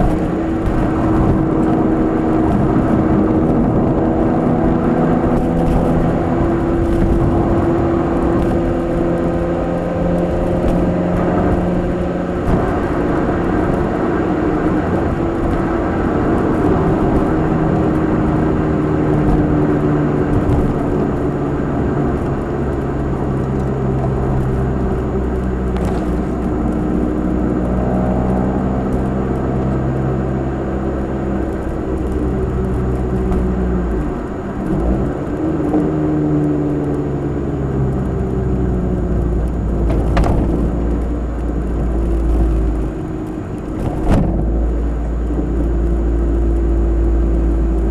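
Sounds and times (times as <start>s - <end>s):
car engine drone: 0.0s - 47.9s
road noise: 0.0s - 47.9s.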